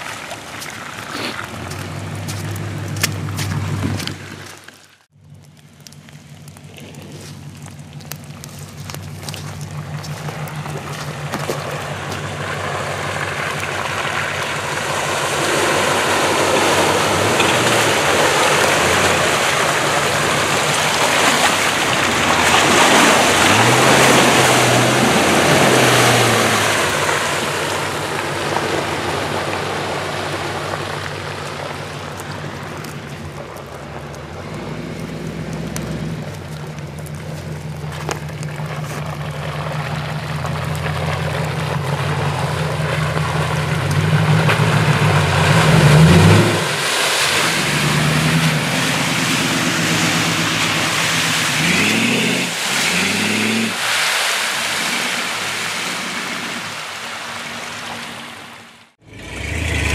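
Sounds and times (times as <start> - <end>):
tyres churning through mud: 0.0 - 59.9
car engine revving: 6.4 - 53.9, 59.0 - 59.9.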